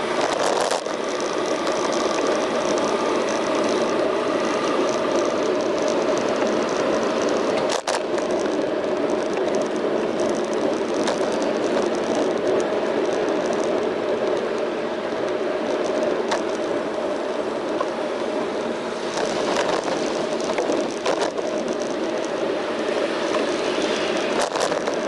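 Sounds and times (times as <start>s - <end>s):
bicycle tyres on road: 0.0s - 25.0s
wind on camera: 0.0s - 25.0s.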